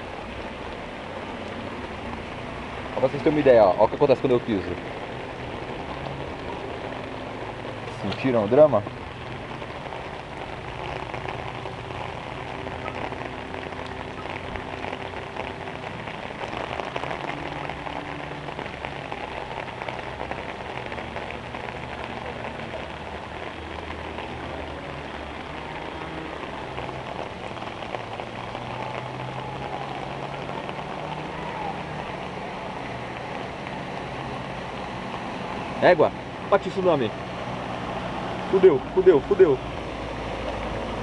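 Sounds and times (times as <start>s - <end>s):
heavy rain on water and pavement: 0.0s - 41.0s.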